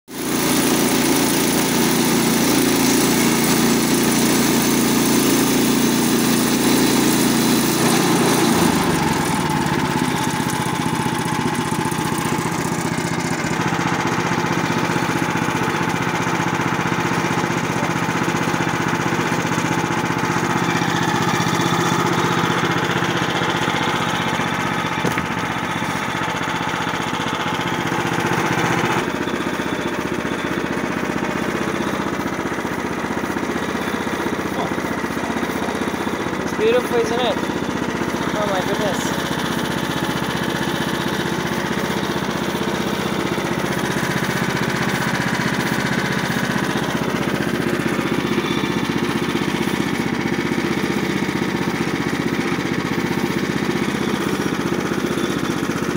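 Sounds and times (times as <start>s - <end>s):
band saw cutting log: 0.1s - 55.9s
petrol engine running: 0.1s - 55.9s.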